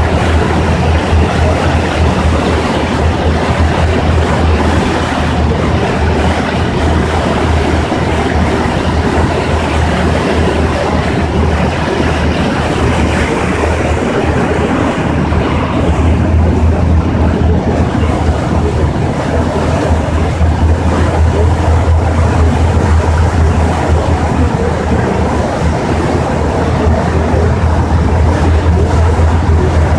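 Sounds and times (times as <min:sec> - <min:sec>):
ferry engine drone: 0:00.0 - 0:29.9
water noise: 0:00.0 - 0:29.9
wind: 0:00.0 - 0:29.9.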